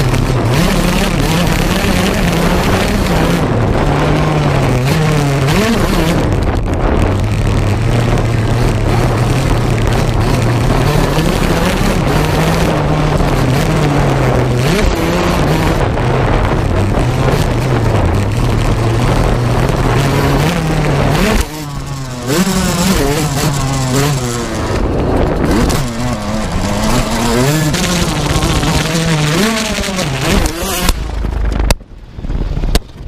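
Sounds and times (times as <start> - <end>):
motocross engine revving: 0.0 - 31.6.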